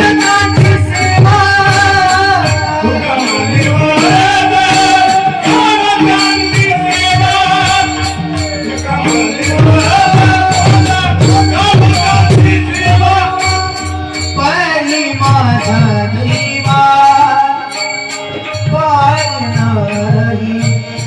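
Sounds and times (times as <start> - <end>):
metallic jingling percussion: 0.0 - 21.0
person singing devotional song: 0.0 - 21.0
sustained instrumental tones: 0.0 - 21.0
tabla beat: 0.0 - 21.0.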